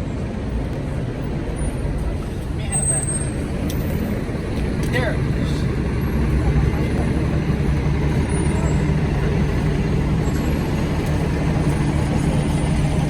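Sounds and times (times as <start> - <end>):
large engine idling: 0.2 - 13.0.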